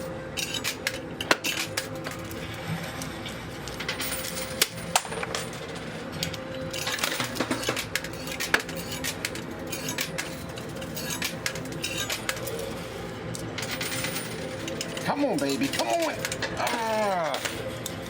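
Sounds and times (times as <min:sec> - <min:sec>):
coins clinking in arcade machine: 0:00.0 - 0:18.0.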